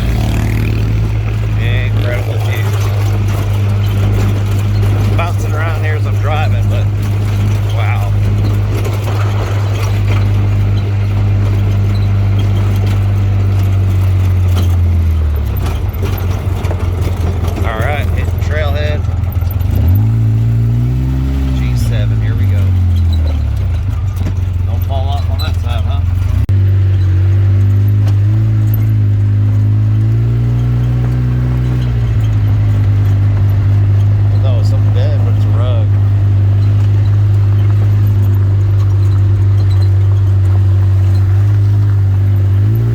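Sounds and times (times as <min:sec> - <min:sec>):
off-road vehicle engine droning: 0:00.0 - 0:42.9.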